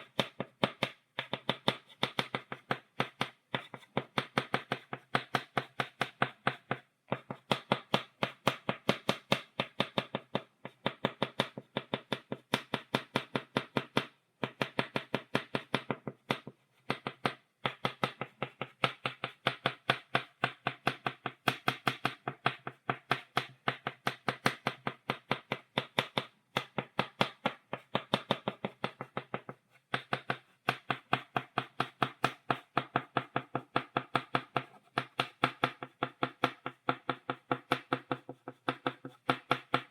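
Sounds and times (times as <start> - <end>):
chalk tapping on blackboard: 0.0 - 39.9.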